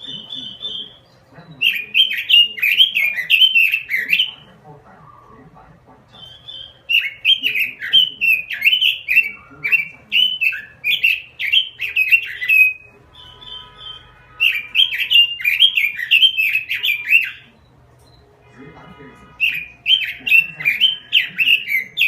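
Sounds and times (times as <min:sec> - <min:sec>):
bird warbling song: 0:00.0 - 0:18.4, 0:19.0 - 0:22.0.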